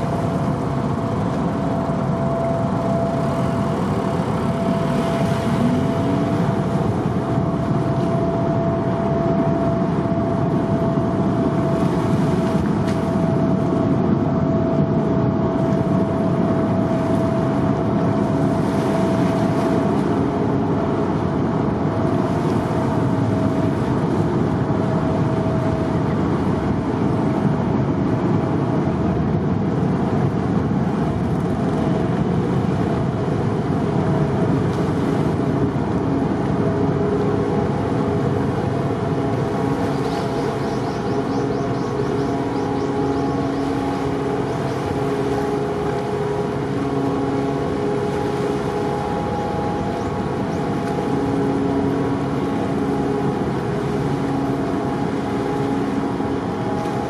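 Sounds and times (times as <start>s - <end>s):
ferry engines rumbling: 0.0s - 57.0s
steady hum: 0.0s - 57.0s.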